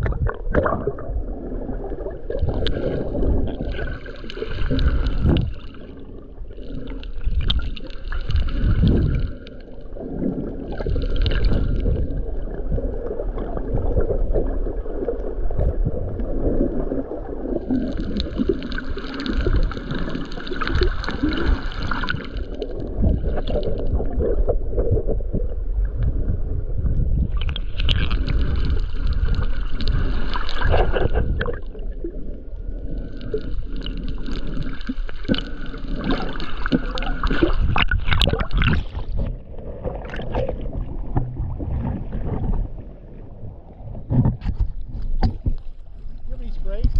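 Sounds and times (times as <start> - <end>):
water splashing: 0.0 - 25.3, 26.0 - 46.9
water rumbling and gurgling: 0.0 - 46.9.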